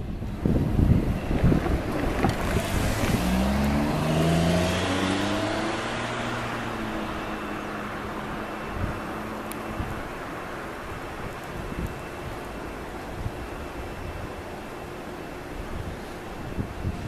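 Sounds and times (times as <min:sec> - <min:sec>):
rushing rumble of train: 0:00.0 - 0:17.0.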